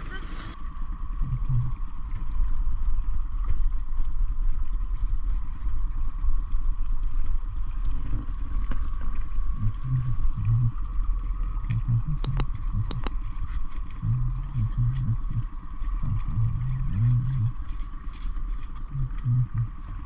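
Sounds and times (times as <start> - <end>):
wind rumble on microphone: 0.5 - 12.8, 13.5 - 20.0.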